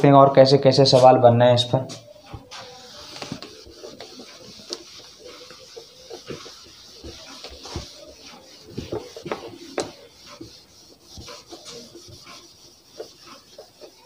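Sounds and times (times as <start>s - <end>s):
eraser rubbing on whiteboard: 1.9s - 14.0s.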